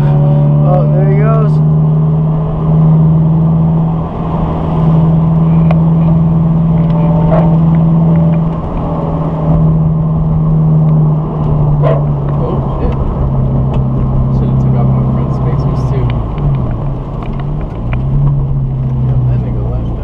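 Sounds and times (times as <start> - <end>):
car engine droning: 0.0 - 20.0
tyres on wet road: 0.0 - 20.0.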